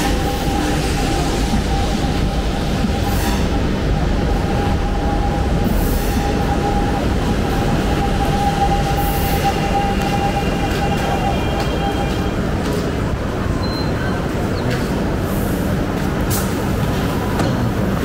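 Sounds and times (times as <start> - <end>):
electric train mechanical noise: 0.0 - 18.0.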